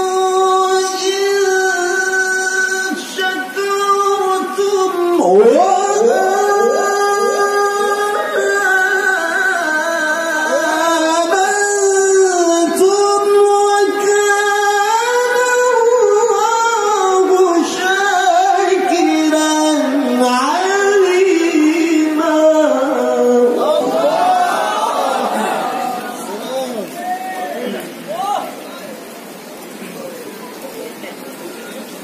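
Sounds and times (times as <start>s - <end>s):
man reciting melodically: 0.0s - 27.8s.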